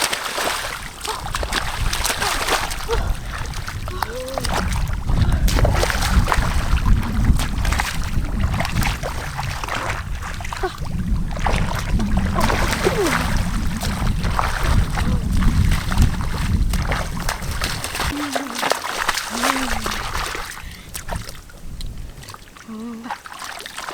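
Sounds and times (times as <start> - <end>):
water sloshing and splashing: 0.0 - 23.9
wind on microphone: 0.5 - 22.5.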